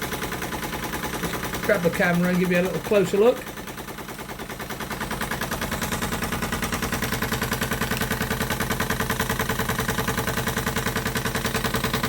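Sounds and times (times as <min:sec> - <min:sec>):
steam engine exhaust chuffs: 0:00.0 - 0:12.0.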